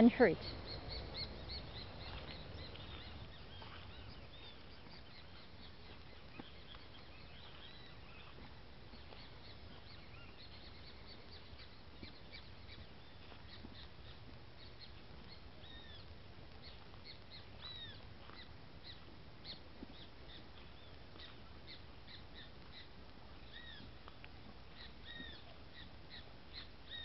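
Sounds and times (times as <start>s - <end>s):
birds chirping and calling: 0.0s - 27.0s
faint low rumble: 0.0s - 27.0s.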